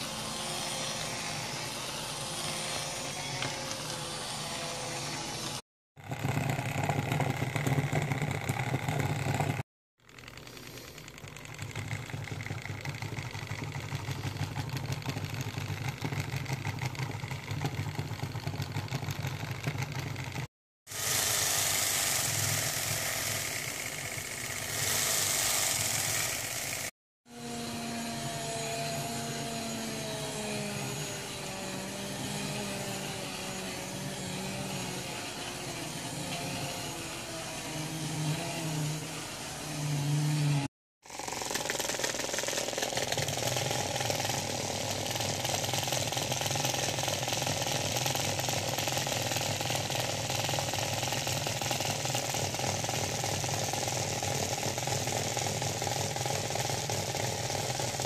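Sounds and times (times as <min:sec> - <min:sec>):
small robots buzzing and rattling: 0:00.0 - 0:58.0.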